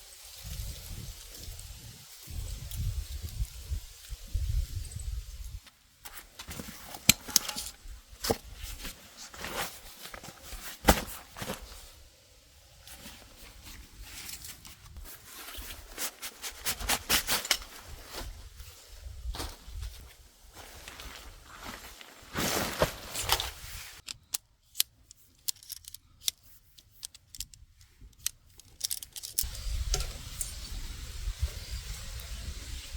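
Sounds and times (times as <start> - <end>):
camping gear clicks and rustles: 0.4 - 30.8.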